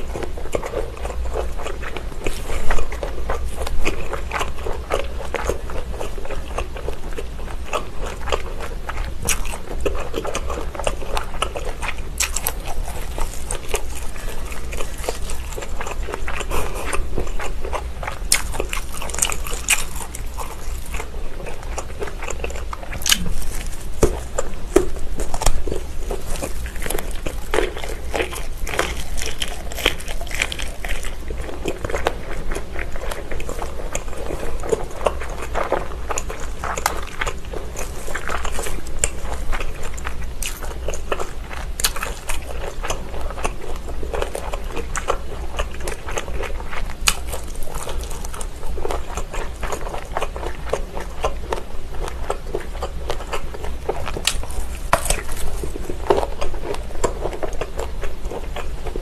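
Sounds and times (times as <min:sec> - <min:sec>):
close chewing with wet mouth smacks: 0:00.0 - 0:59.0.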